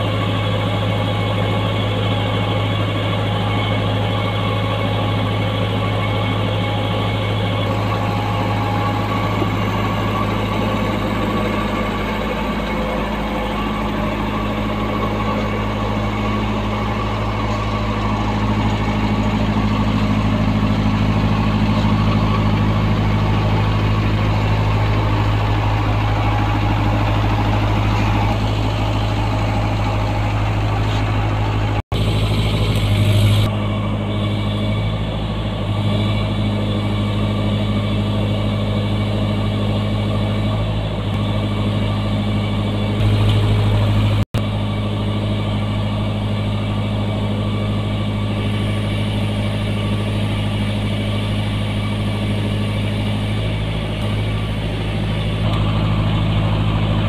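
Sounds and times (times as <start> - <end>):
diesel generator humming: 0.0 - 57.0.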